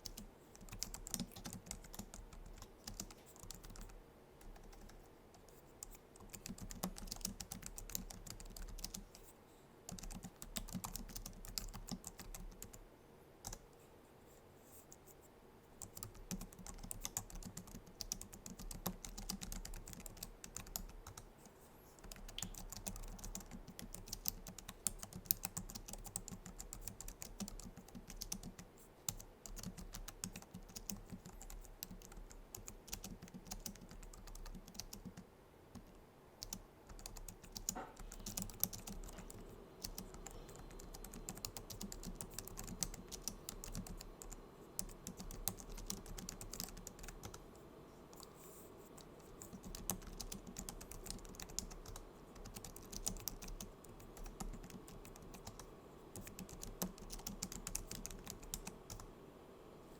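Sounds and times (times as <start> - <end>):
keyboard keys clicking: 0.0 - 5.0, 5.8 - 9.1, 9.9 - 12.8, 15.8 - 21.3, 22.0 - 35.2, 35.8 - 47.4, 49.0 - 59.1.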